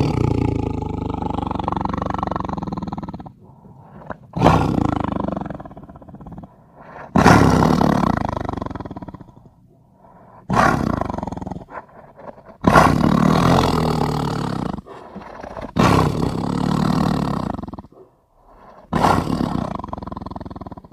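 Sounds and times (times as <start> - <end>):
tiger roaring: 0.0 - 20.9.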